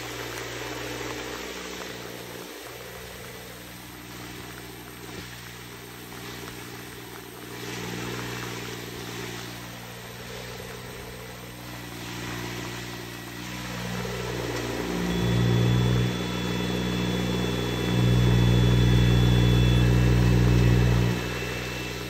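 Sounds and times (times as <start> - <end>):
rain hissing on water: 0.0 - 22.0
small engine running: 0.0 - 22.0.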